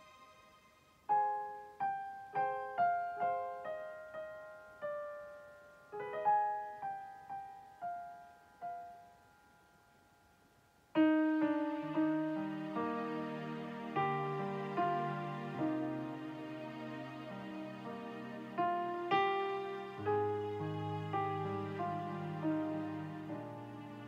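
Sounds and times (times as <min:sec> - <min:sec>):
slow soft piano melody: 0:00.0 - 0:24.0.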